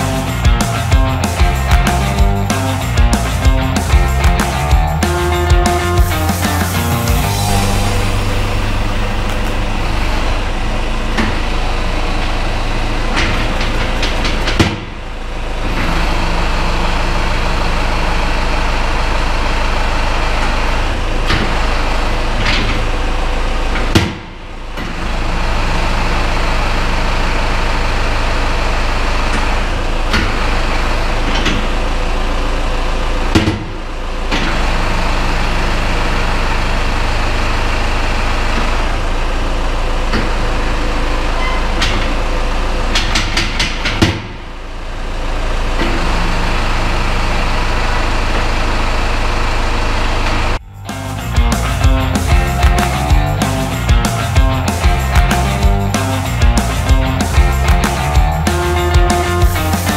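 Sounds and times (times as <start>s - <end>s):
engine knocks: 0.0s - 59.9s
tractor diesel engine running: 0.0s - 59.9s.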